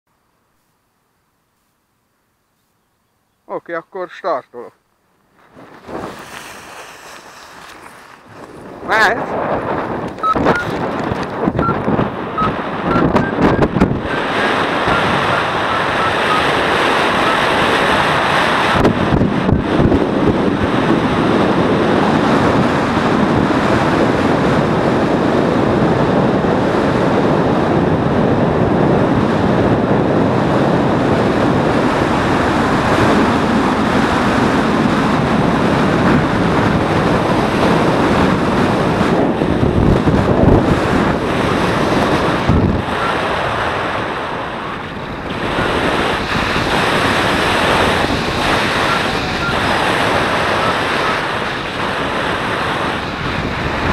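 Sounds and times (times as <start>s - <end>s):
wind rushing over microphone: 5.4s - 53.9s.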